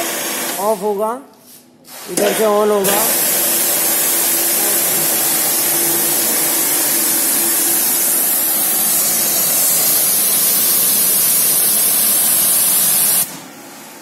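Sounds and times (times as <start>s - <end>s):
pressure washer spraying hiss: 1.9s - 13.3s.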